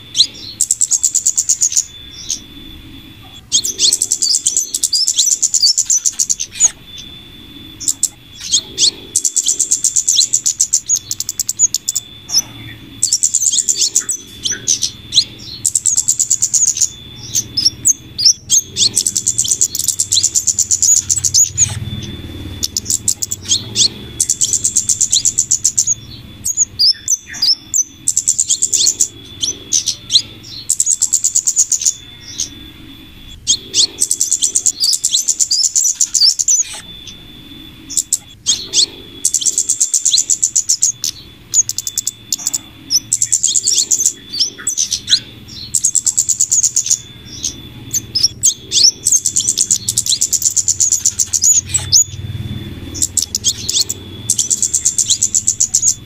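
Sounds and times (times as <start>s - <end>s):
faint steady high tone: 0.0s - 56.0s
rapid high bird trills: 0.0s - 56.0s.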